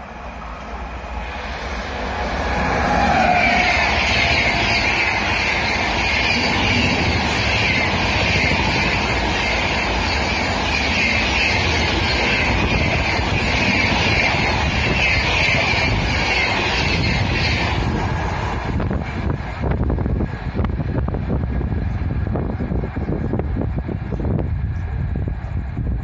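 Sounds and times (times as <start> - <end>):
train rushing past: 0.0 - 26.0.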